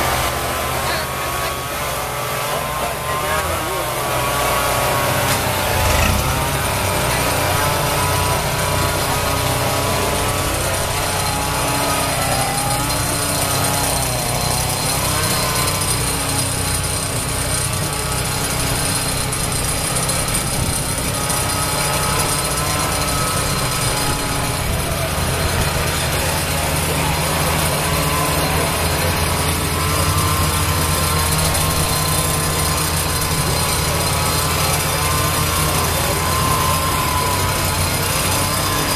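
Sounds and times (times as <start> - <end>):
chainsaw engines running: 0.0 - 38.9.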